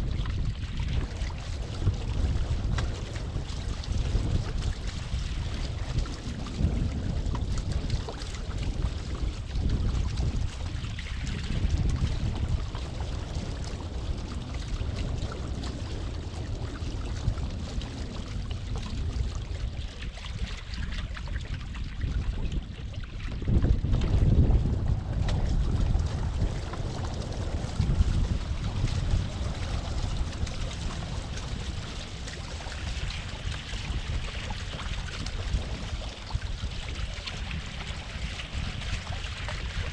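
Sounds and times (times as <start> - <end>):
water rushing along a hull: 0.0 - 39.9
wind buffeting the microphone: 0.0 - 39.9.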